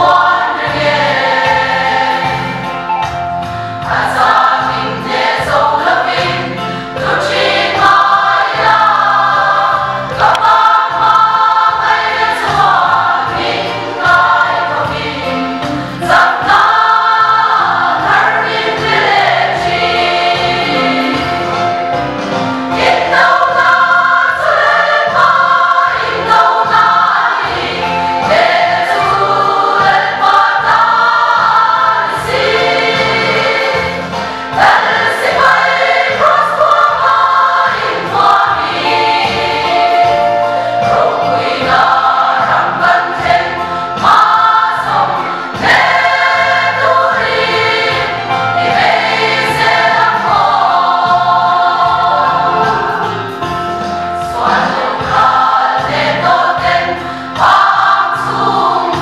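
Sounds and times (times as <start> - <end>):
women's choir singing a hymn: 0.0 - 59.0.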